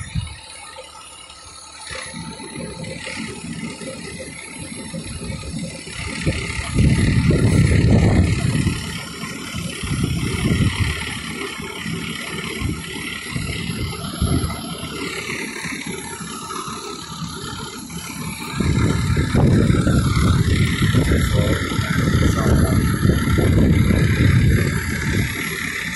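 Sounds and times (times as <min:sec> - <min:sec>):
vehicle engine rumbling: 0:00.0 - 0:25.9.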